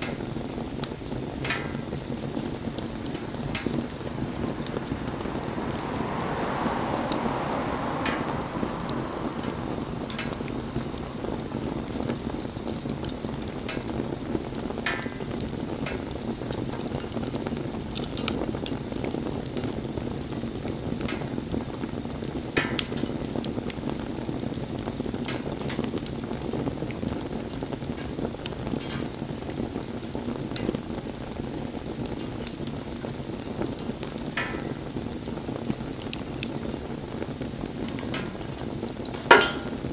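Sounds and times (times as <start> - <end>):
bonfire flames hissing: 0.0 - 39.9
wood crackling and popping: 0.0 - 39.9.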